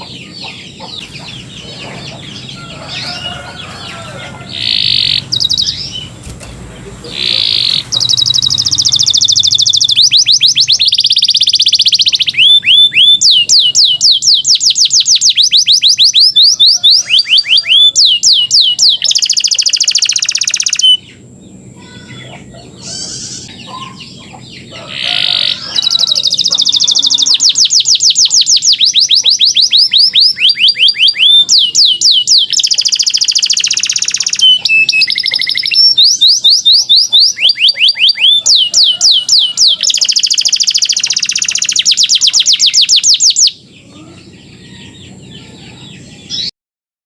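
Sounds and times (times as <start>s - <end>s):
canary singing in trills: 0.0s - 46.5s.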